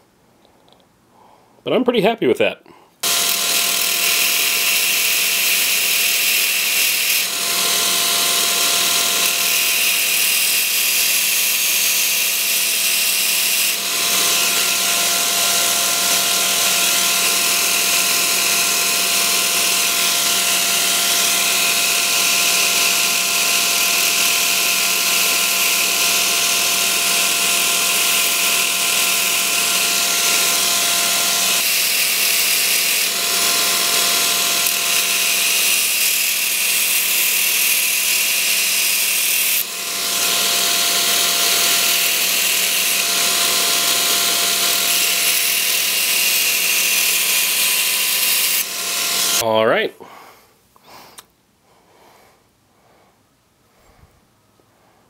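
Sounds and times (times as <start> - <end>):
belt grinder motor whine: 3.0 - 49.4.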